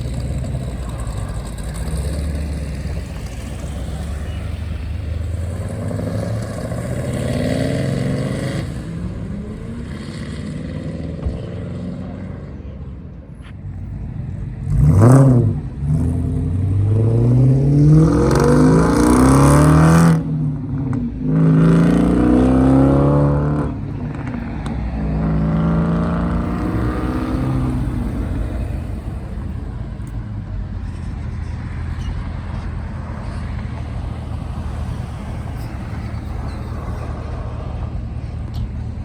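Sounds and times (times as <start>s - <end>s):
car accelerating hard: 0.0s - 12.5s, 14.2s - 39.0s.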